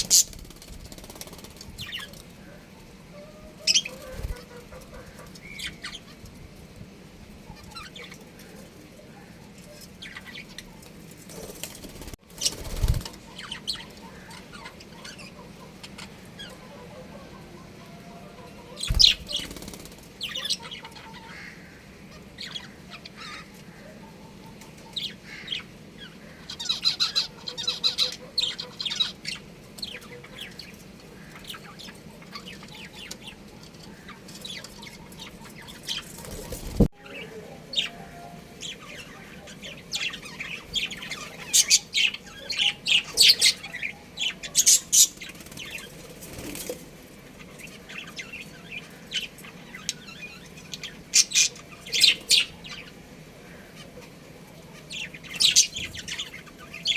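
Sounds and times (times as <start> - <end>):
budgerigars chirping and chattering: 0.0 - 6.3, 7.4 - 46.7, 47.3 - 56.9.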